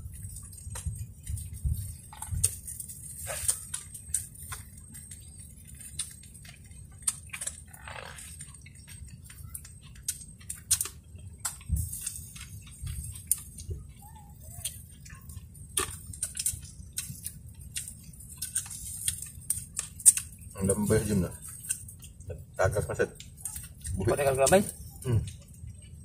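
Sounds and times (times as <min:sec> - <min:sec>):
chewing and lip smacks: 0:00.0 - 0:26.0
low steady rumble: 0:00.0 - 0:26.0.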